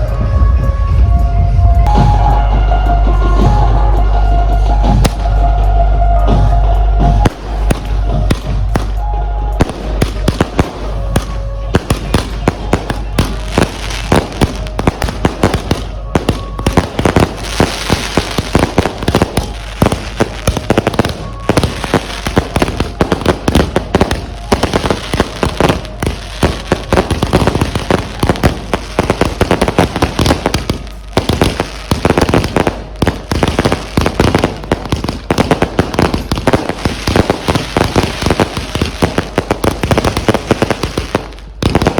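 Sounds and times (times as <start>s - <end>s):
fireworks bangs and cracks: 4.9s - 5.6s, 6.2s - 41.9s.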